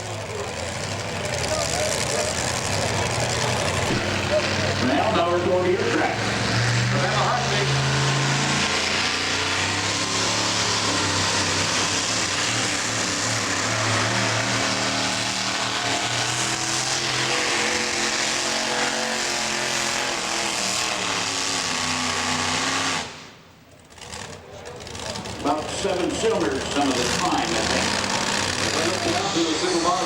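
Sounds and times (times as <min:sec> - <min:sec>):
truck engine running hard under load: 0:00.0 - 0:30.0.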